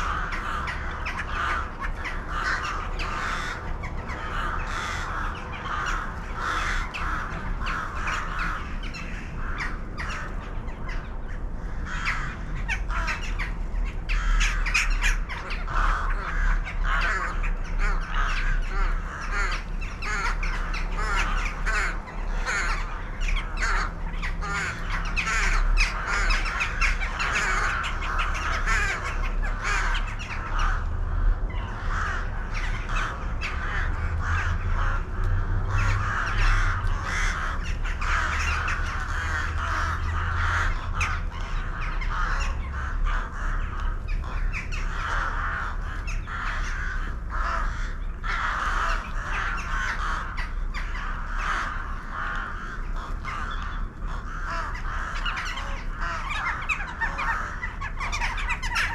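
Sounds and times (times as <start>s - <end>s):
flock of birds calling: 0.0s - 58.9s
steady low rumble: 0.0s - 58.9s.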